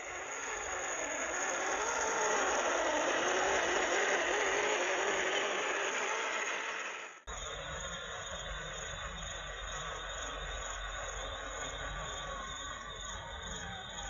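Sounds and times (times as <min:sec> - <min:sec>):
toy car electric motor whining: 0:00.0 - 0:14.0.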